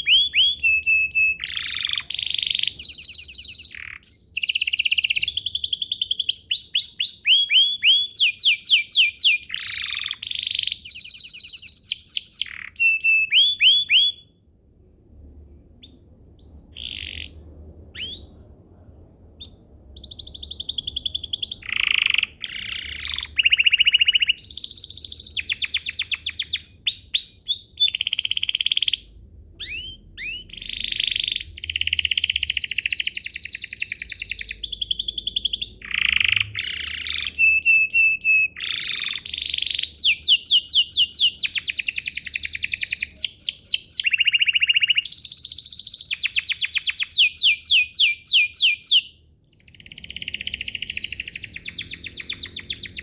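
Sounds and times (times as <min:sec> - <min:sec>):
canary singing trills: 0:00.0 - 0:14.4, 0:15.8 - 0:18.5, 0:19.4 - 0:53.0.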